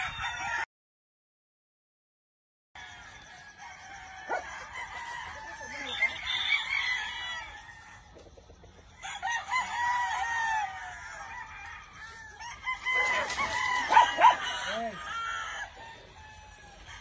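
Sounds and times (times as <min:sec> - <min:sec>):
roosters crowing: 0:00.0 - 0:00.7, 0:02.8 - 0:17.0.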